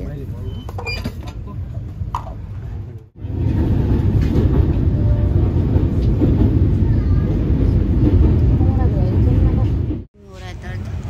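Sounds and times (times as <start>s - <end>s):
train rumbling inside coach: 0.0s - 11.0s.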